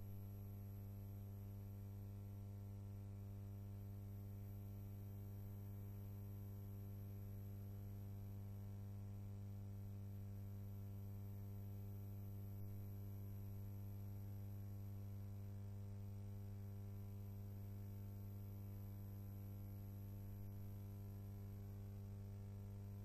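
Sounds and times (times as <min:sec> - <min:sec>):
low electrical hum with hiss: 0:00.0 - 0:23.0.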